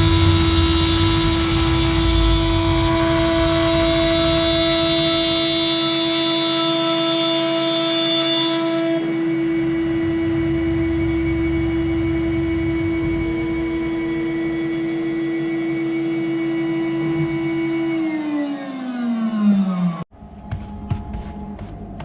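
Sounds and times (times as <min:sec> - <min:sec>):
router spindle whining: 0:00.0 - 0:20.1.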